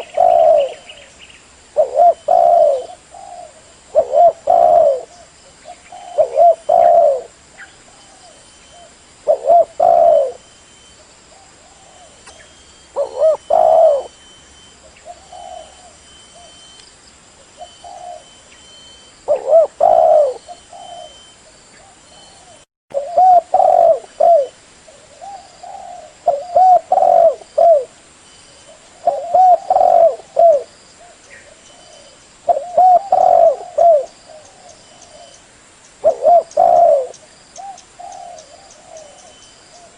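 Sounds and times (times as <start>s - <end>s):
dove cooing: 0.0s - 1.1s, 1.7s - 14.2s, 14.8s - 16.7s, 17.6s - 18.4s, 19.0s - 28.0s, 28.6s - 35.4s, 36.0s - 39.9s.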